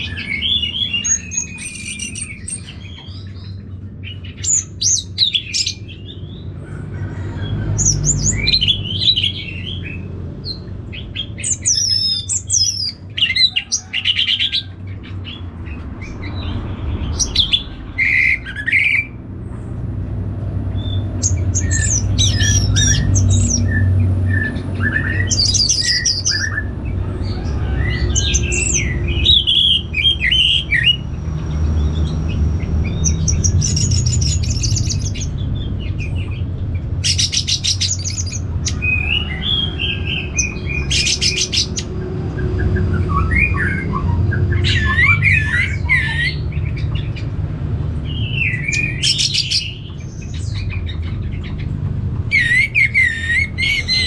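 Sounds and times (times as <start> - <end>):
bird singing varied phrases: 0.0 - 6.6, 7.6 - 19.2, 20.7 - 54.0.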